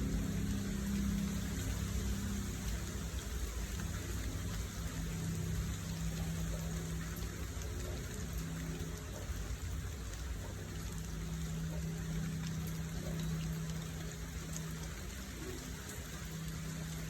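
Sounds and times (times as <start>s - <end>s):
faint water drips: 0.0s - 17.0s
hiss of rain: 0.0s - 17.0s
low steady hum: 0.0s - 17.0s.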